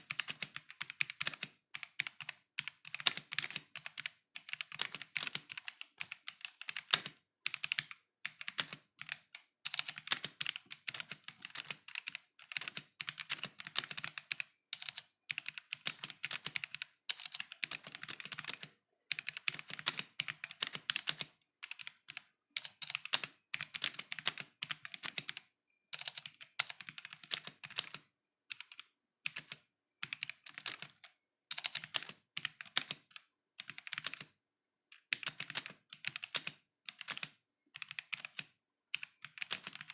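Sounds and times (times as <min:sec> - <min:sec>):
mechanical keyboard typing: 0:00.0 - 0:34.4, 0:35.0 - 0:39.9.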